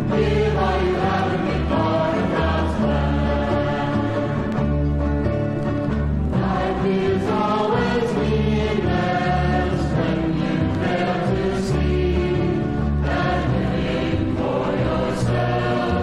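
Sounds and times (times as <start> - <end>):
folk song with voices singing: 0.0 - 16.0.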